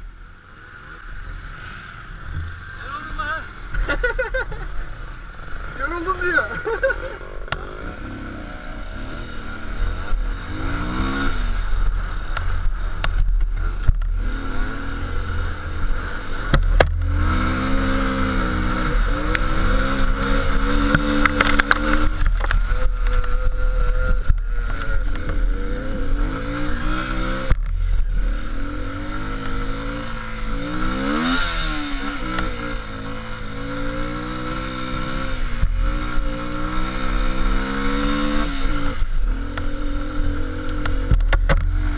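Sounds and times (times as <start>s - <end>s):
car engine running under load: 0.0s - 34.3s, 38.6s - 41.9s.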